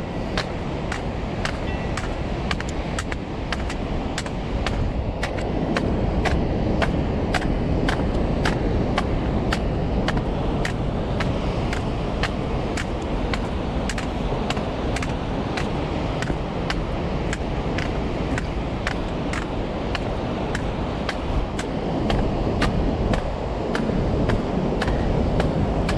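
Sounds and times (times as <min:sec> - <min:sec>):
footsteps on cobblestones: 0:00.0 - 0:25.9
surf: 0:00.0 - 0:25.9
wind: 0:00.0 - 0:25.9.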